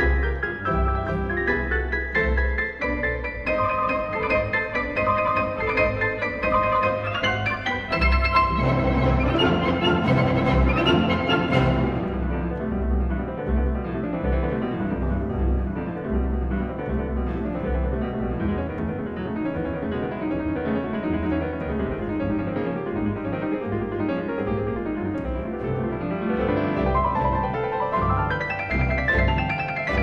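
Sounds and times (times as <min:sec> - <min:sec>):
instrumental piano music: 0:00.0 - 0:30.0.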